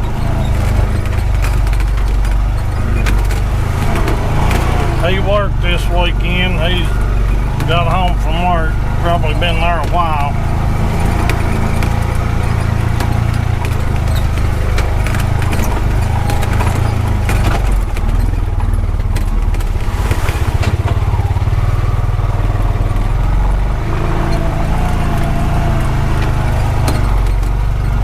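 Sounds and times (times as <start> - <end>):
utility vehicle engine running: 0.0 - 28.0
vehicle knocks and rattles: 0.0 - 28.0.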